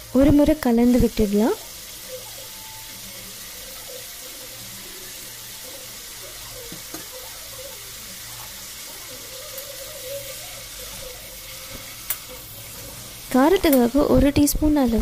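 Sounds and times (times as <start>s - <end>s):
meat sizzling in hot oil: 0.0s - 15.0s
spatula stirring: 0.9s - 15.0s.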